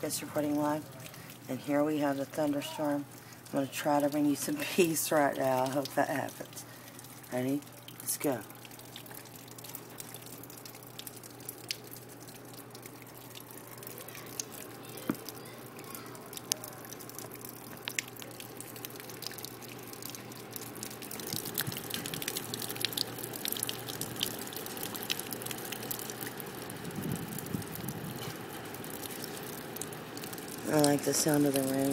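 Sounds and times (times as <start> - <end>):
rain pattering: 0.0 - 31.9
raindrops ticking on surfaces: 0.0 - 31.9.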